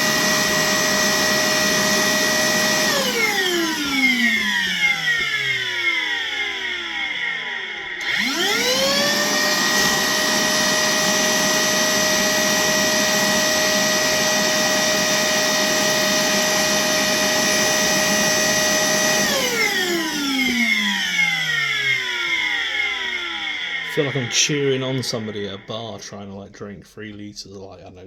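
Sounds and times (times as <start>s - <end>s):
vacuum motor whine: 0.0s - 26.4s.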